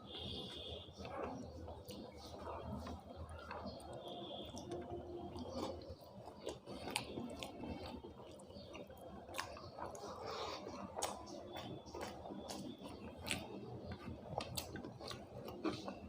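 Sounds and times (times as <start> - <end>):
person chewing wetly: 0.0 - 16.0.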